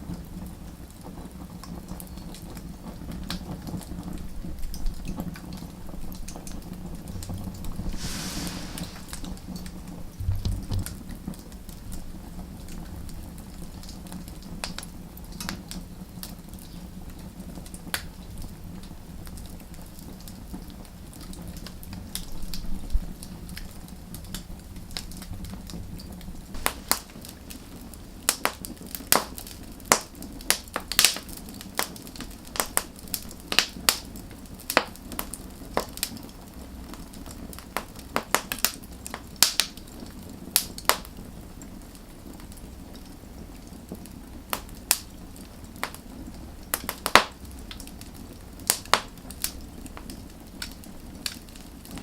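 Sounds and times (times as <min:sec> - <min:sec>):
low flame rumble: 0:00.0 - 0:52.0
burning wood popping: 0:00.1 - 0:52.0.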